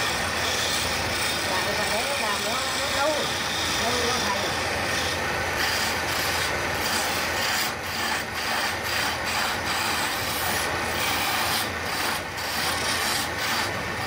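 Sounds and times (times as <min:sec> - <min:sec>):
chisel scraping spinning wood: 0:00.0 - 0:14.0
lathe motor humming: 0:00.0 - 0:14.0.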